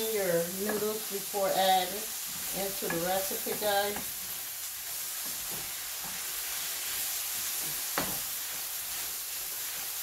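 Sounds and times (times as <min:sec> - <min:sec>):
stir fry sizzling in a pan: 0:00.0 - 0:10.0.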